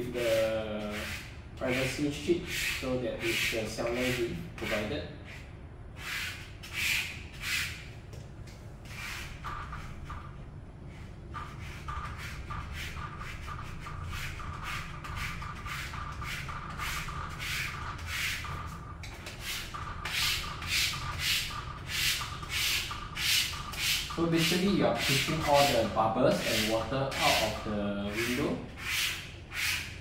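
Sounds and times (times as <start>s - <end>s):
squeegee rubbing wet film: 0.0s - 7.9s, 8.8s - 30.0s.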